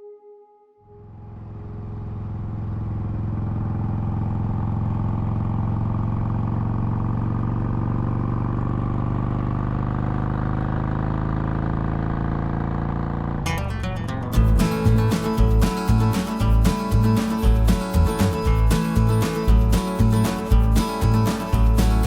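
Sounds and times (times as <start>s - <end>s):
motorcycle engine cruising: 1.0s - 22.0s.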